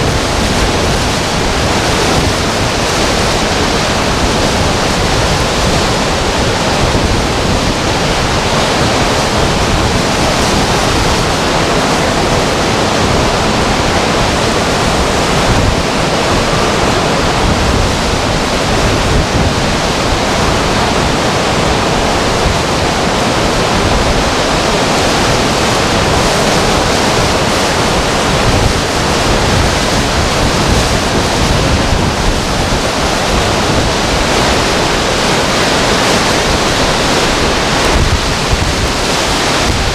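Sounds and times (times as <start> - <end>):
strong wind on microphone: 0.0 - 39.9.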